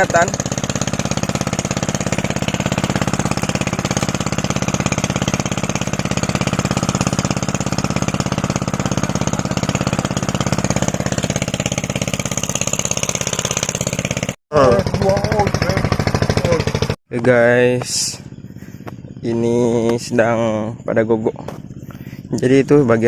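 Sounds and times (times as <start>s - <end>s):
small engine idling: 0.0s - 23.0s.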